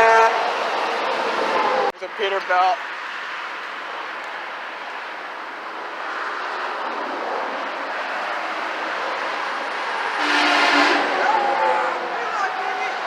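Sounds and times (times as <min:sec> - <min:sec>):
trucks passing on highway: 0:00.0 - 0:13.0.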